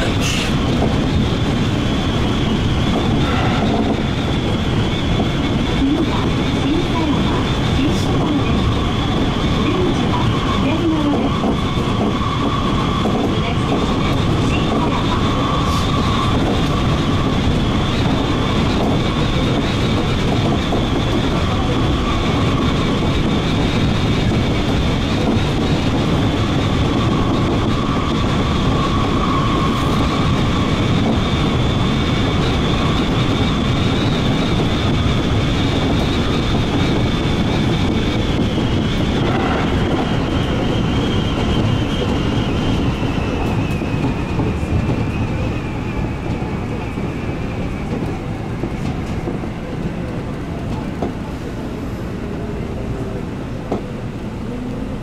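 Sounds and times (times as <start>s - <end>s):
wheels clattering on rail: 0.0s - 51.6s
high train whine: 0.0s - 55.0s.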